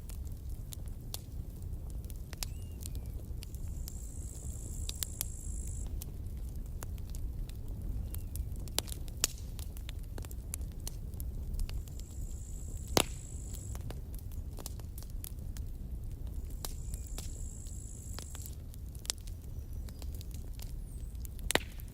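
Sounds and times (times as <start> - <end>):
campfire crackling and popping: 0.0 - 21.9
low rumble of burning: 0.0 - 21.9.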